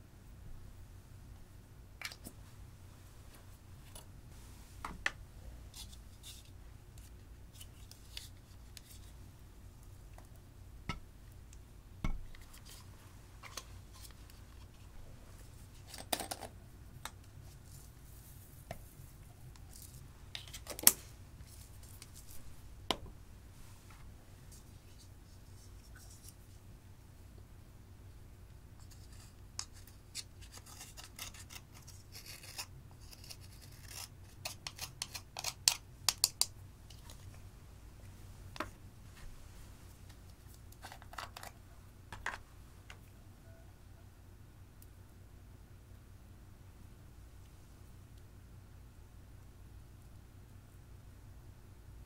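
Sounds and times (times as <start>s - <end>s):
faint room hum: 0.0s - 52.0s.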